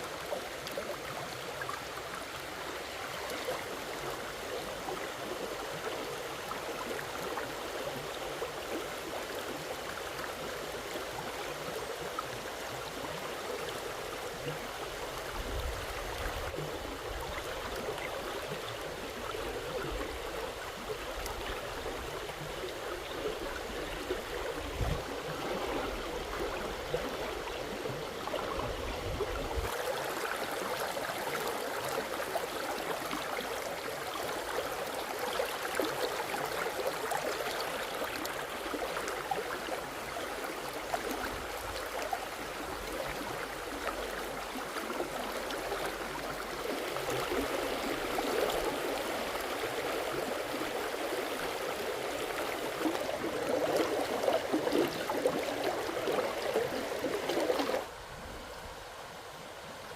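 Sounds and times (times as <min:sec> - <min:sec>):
water flowing steadily: 0:00.0 - 0:59.9.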